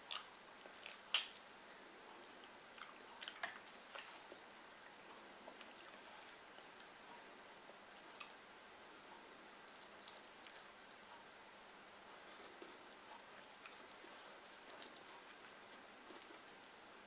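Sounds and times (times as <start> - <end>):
chewing with lip smacks: 0.0 - 8.7, 9.3 - 17.0
fingers mixing food on a plate: 2.1 - 16.9.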